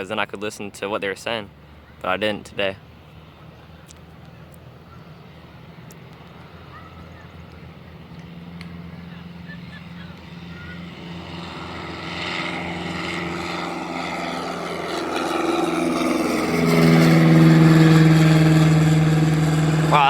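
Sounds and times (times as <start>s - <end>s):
propeller airplane engine drone: 0.0s - 20.0s.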